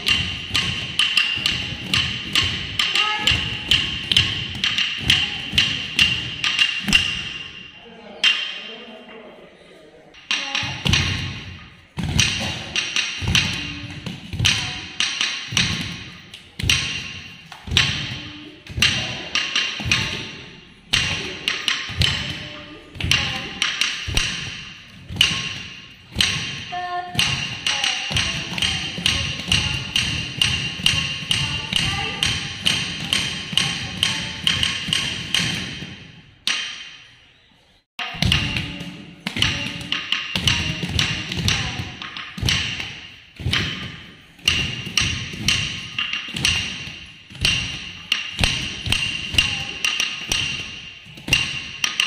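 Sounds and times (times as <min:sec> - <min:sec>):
wooden stick beating a wooden block: 0:00.0 - 0:08.8, 0:10.2 - 0:37.2, 0:38.0 - 0:52.0.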